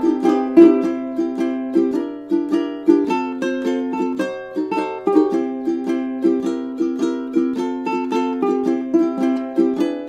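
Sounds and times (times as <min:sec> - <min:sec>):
ukulele strumming chords: 0:00.0 - 0:10.0.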